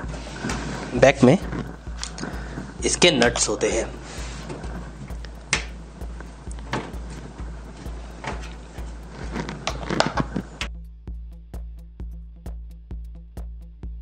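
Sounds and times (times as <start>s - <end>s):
background music with beat: 0.0s - 14.0s.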